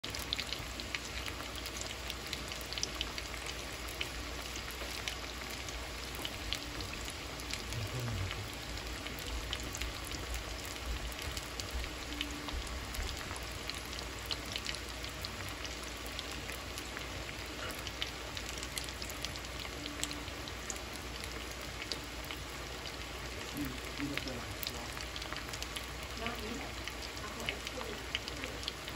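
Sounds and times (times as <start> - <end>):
oil popping and crackling: 0.0 - 28.9
potatoes sizzling in oil: 0.0 - 28.9.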